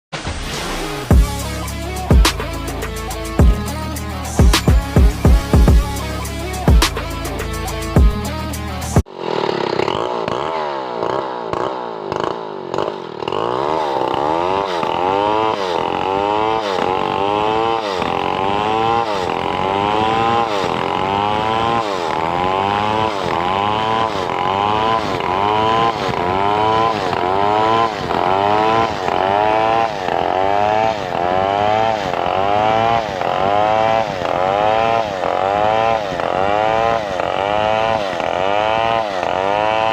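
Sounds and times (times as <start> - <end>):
chainsaw cutting wood: 0.2 - 39.9.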